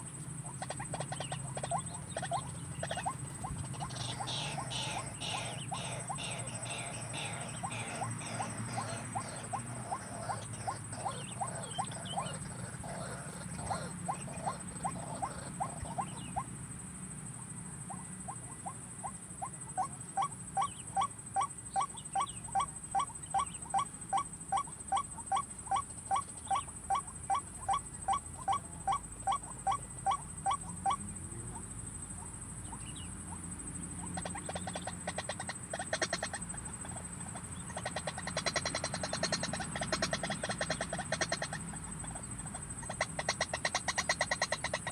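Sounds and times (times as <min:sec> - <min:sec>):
waterhen calling: 0:00.0 - 0:16.5, 0:19.4 - 0:31.6, 0:32.7 - 0:44.9.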